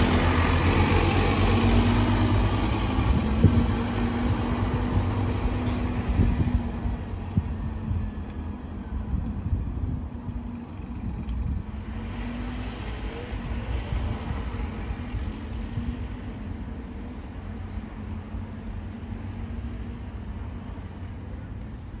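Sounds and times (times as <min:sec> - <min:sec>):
road traffic rumble: 0:00.0 - 0:22.0
wind buffeting microphone: 0:00.2 - 0:22.0.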